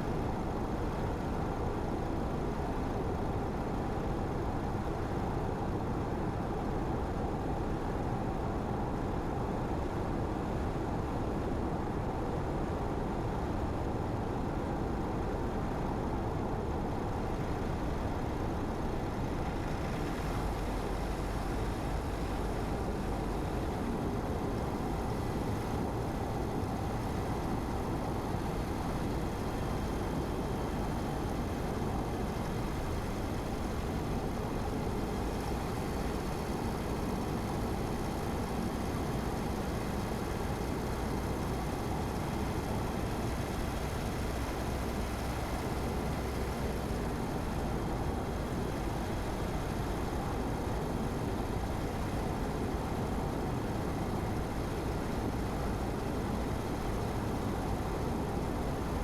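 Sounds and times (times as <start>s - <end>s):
low engine hum: 0.0s - 59.0s
road and tyre noise: 0.0s - 59.0s.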